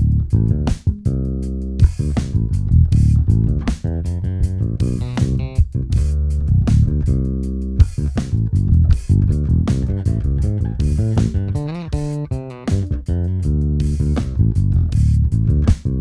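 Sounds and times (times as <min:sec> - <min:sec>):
electric bass notes: 0:00.0 - 0:16.0.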